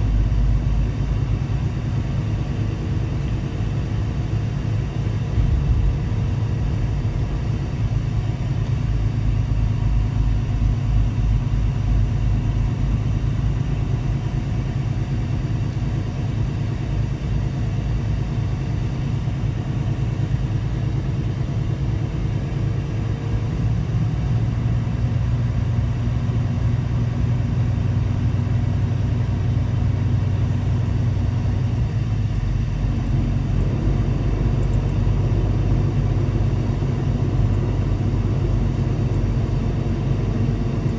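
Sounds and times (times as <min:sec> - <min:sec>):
truck diesel engine drone: 0:00.0 - 0:40.9.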